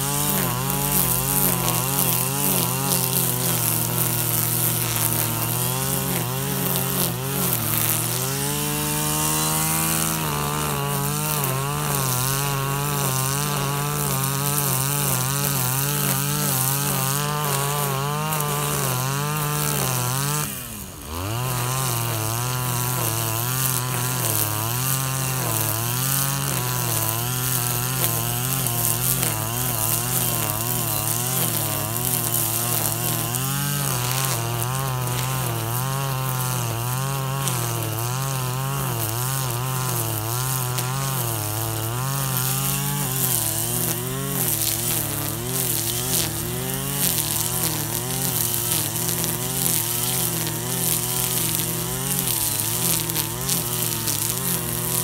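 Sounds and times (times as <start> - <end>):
brush cutter engine high revs: 0.0 - 55.0.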